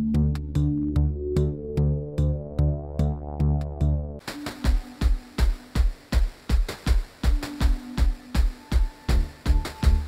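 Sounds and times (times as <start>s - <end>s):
electronic music with drum-machine beat: 0.1s - 10.0s.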